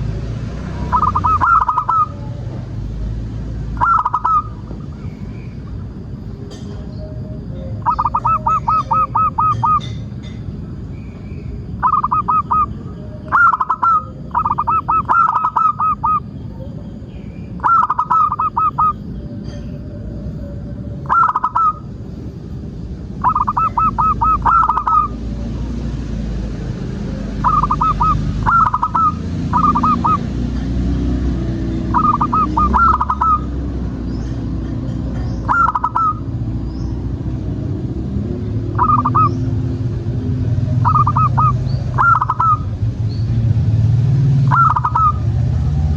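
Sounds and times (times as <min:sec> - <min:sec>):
doves cooing: 0:00.0 - 0:37.4, 0:38.1 - 0:42.9, 0:44.3 - 0:45.9.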